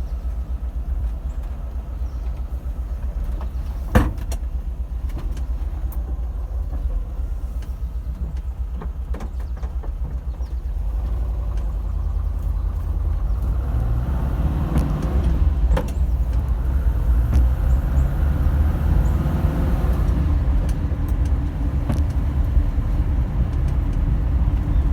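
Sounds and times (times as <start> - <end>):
van engine running with knock: 0.0 - 24.9.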